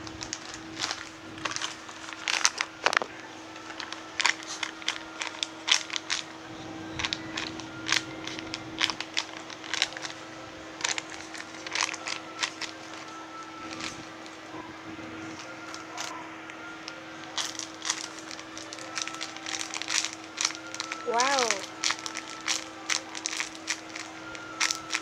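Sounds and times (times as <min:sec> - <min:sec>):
plastic wrappers crinkling: 0:00.0 - 0:25.0
steady low hum: 0:00.0 - 0:25.0.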